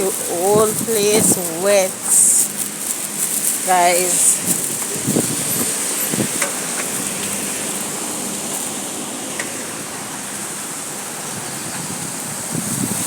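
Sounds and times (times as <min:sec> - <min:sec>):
rain on a wet street: 0:00.0 - 0:13.0.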